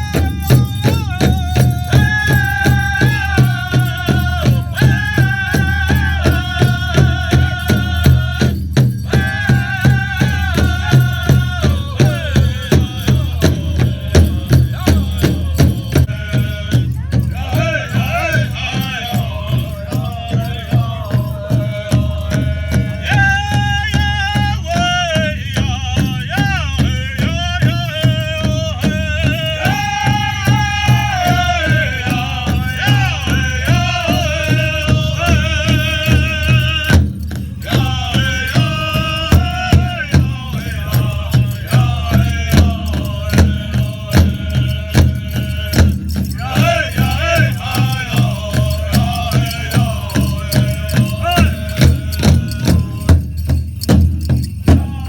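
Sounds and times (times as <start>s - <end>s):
group singing in high voices: 0.0s - 53.5s, 54.7s - 55.0s
big drum beating: 0.0s - 55.0s
rattling jingle: 0.0s - 55.0s.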